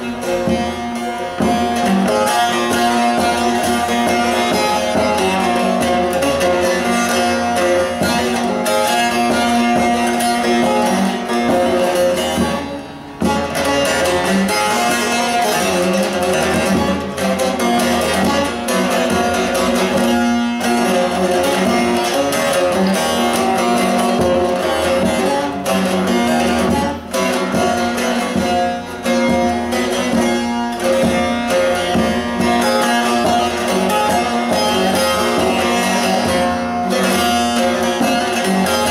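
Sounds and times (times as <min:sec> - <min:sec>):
plucked lute melody: 0:00.0 - 0:38.9.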